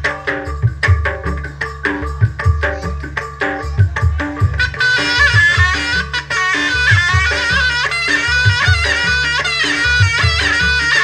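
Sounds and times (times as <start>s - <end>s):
drum strokes: 0.0s - 11.0s
reedy shawm: 0.0s - 11.0s.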